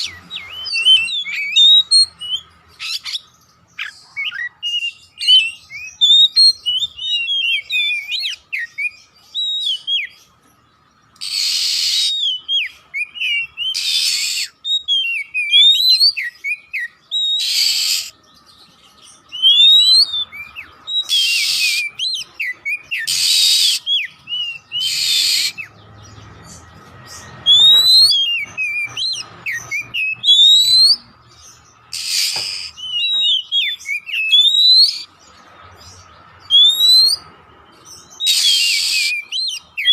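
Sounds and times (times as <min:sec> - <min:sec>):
bird harsh rasping call: 0:00.0 - 0:10.3, 0:11.2 - 0:18.3, 0:19.2 - 0:39.9
bird whistled song: 0:00.0 - 0:39.9.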